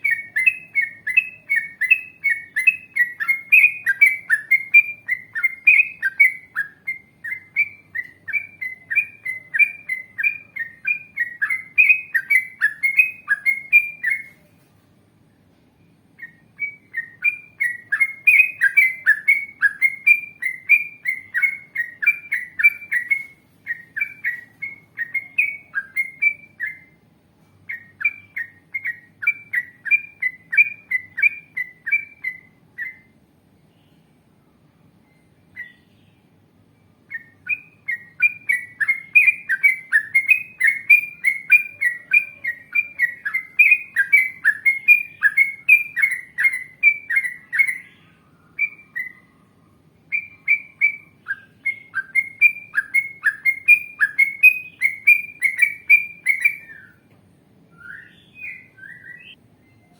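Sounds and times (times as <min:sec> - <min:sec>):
bulbul chirping song: 0:00.0 - 0:14.5, 0:15.4 - 0:59.9.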